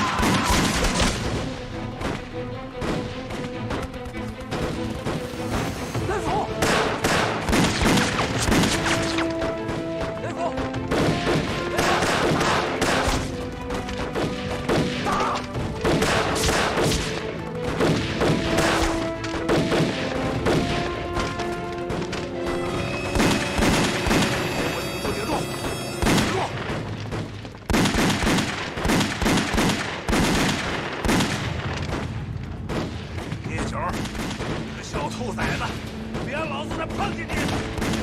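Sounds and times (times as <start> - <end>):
gunfire: 0.0 - 5.4, 6.5 - 22.3, 23.0 - 24.7, 25.6 - 34.8, 37.3 - 38.0
dramatic orchestral music: 0.0 - 38.0.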